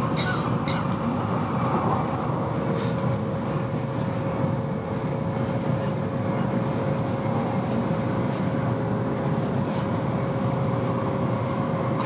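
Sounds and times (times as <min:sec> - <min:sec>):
train cabin rumble: 0:00.0 - 0:12.0.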